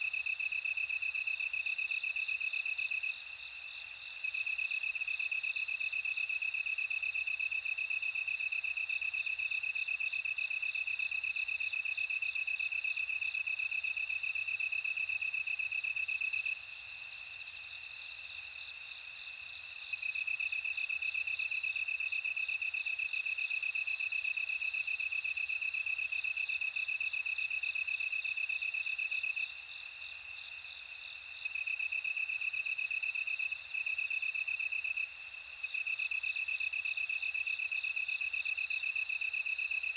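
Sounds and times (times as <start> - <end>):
lower steady cricket trill: 0.0 - 39.9.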